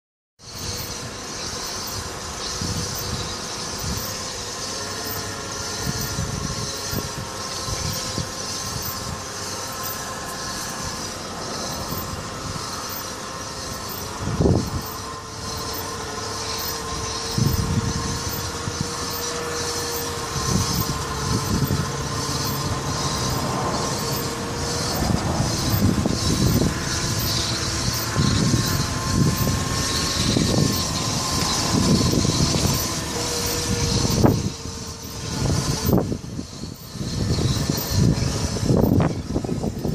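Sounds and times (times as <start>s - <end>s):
wheel metallic squeal and scrape: 0.4s - 39.9s.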